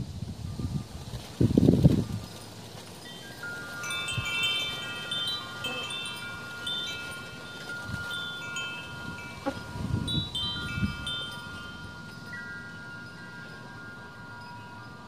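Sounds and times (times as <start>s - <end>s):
wind chimes ringing: 2.0s - 15.0s.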